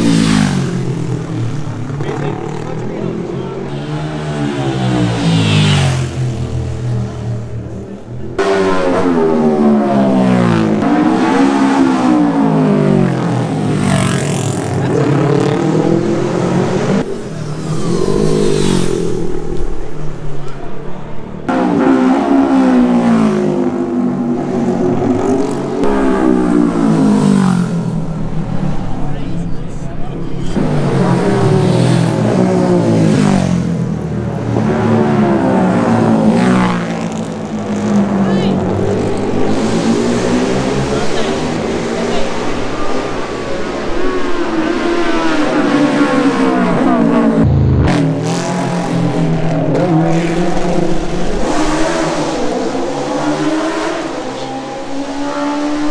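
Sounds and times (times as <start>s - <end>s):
racing motorcycles passing by: 0.0s - 55.9s.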